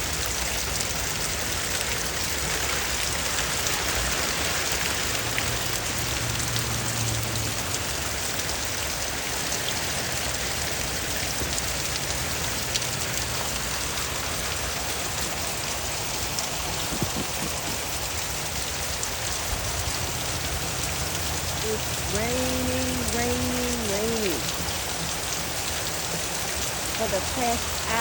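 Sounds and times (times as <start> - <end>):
raindrops ticking: 0.0 - 28.0
steady rain hiss: 0.0 - 28.0.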